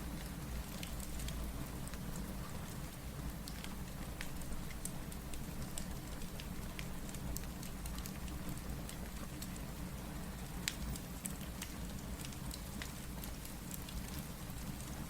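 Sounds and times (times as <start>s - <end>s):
fireplace crackling and popping: 0.0s - 15.0s
steady rain: 0.0s - 15.0s.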